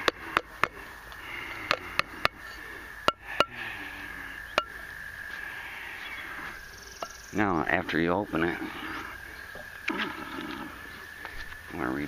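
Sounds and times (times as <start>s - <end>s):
steady high-pitched hum: 0.0s - 12.0s.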